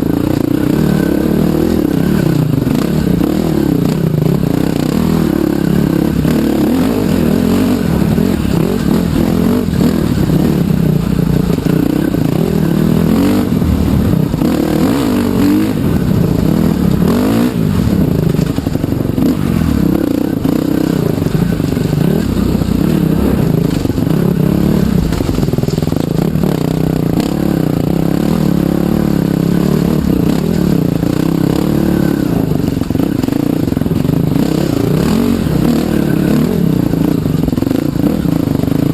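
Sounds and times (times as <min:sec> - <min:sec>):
dirt motorcycle engine revving: 0:00.0 - 0:38.9.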